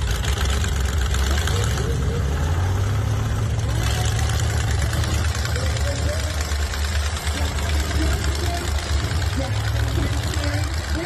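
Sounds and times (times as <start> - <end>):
car engine idling: 0.0 - 11.0
faint voices: 0.4 - 11.0.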